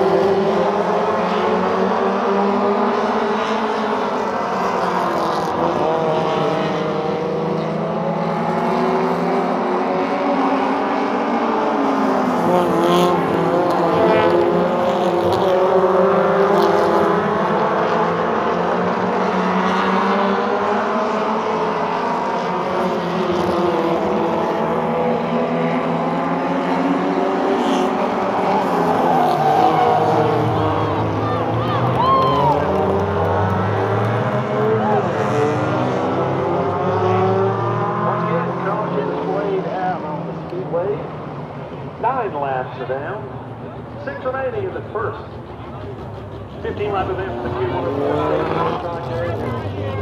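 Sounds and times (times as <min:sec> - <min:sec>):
race car engines: 0:00.0 - 0:50.0.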